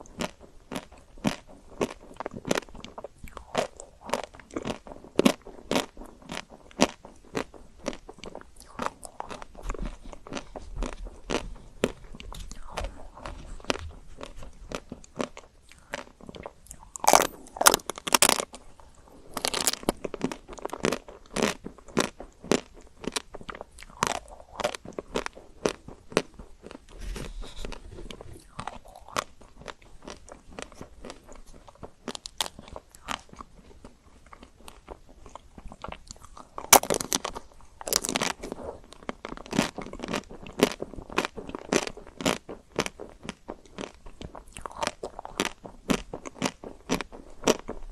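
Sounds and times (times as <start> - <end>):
chewing ice cream: 0.0 - 47.9
chocolate shell crunching: 0.1 - 26.9, 27.7 - 33.6, 34.2 - 47.8.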